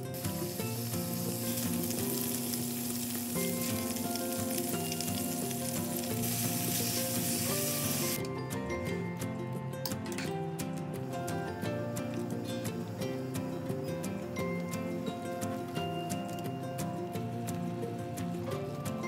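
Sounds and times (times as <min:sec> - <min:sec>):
meat sizzling in a frying pan: 0:00.0 - 0:08.2, 0:11.0 - 0:19.0
background music: 0:00.0 - 0:19.0.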